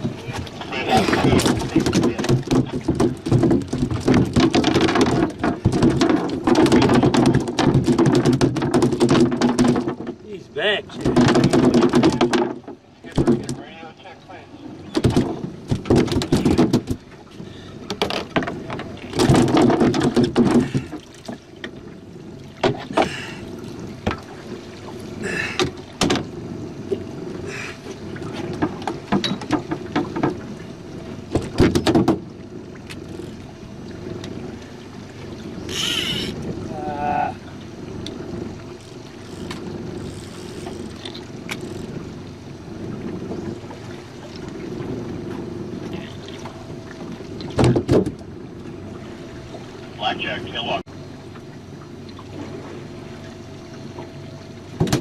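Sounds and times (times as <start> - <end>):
knocks and clatter against hull: 0.0 - 13.8, 14.6 - 49.8, 51.3 - 55.0
boat motor humming: 0.0 - 55.0.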